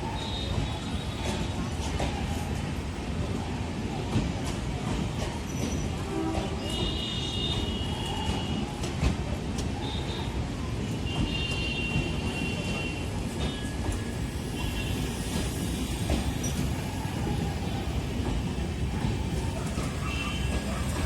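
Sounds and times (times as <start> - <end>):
train rumbling on track: 0.0 - 21.0.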